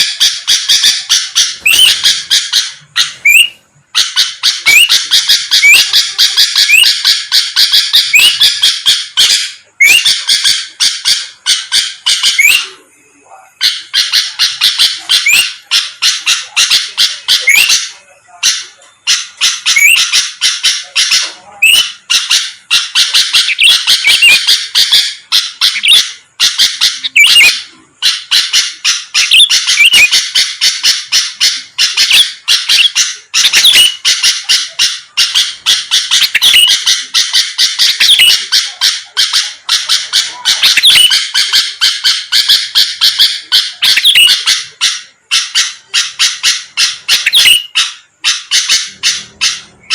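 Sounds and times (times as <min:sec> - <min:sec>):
bird chattering song: 0:00.0 - 0:49.9.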